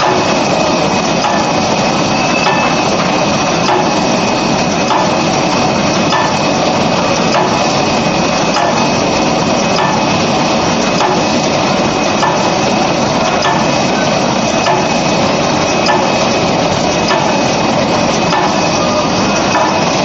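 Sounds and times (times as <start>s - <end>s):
forming machine clattering: 0.0s - 20.0s
steady high whine: 0.0s - 20.0s.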